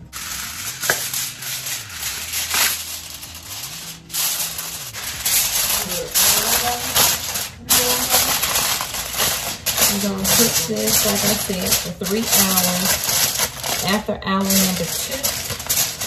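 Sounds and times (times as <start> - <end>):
aluminum foil crinkling: 0.0 - 16.0.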